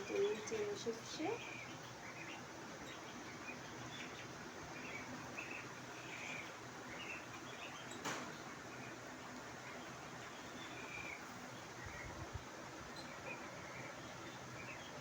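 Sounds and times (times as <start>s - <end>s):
background hiss: 0.0s - 15.0s
faint bird chirps: 0.0s - 15.0s.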